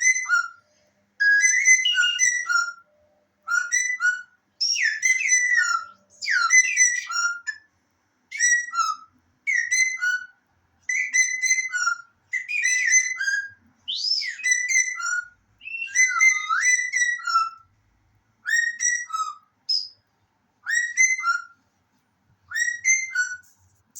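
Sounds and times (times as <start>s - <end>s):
shrill whistling: 0.0s - 7.7s, 8.3s - 17.7s, 18.4s - 20.0s, 20.6s - 21.6s, 22.5s - 23.7s.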